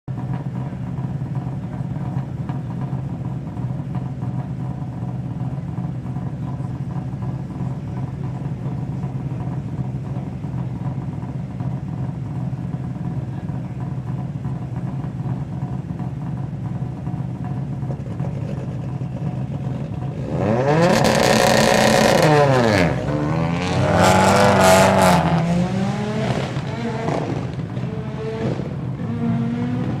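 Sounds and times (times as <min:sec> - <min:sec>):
rally car engine idling and revving: 0:00.1 - 0:30.0.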